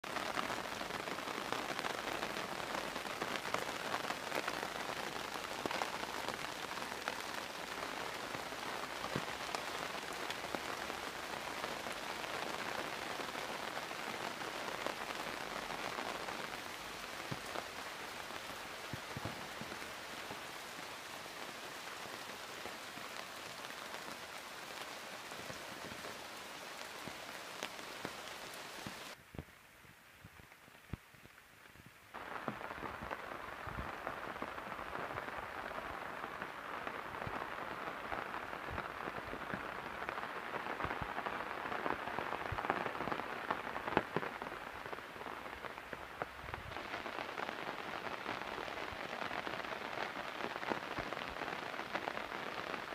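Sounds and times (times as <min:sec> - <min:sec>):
rain on leaves: 0:00.0 - 0:52.9.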